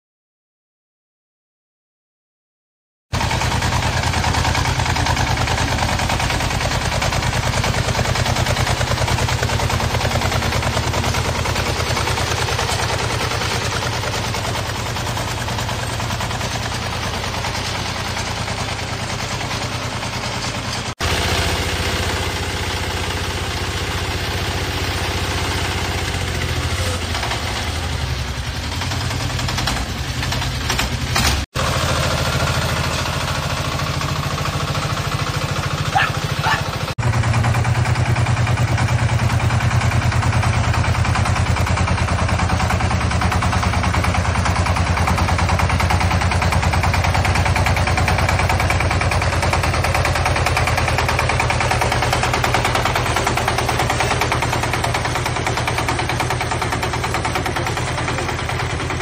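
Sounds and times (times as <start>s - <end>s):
small diesel engine knocking: 3.2s - 59.0s.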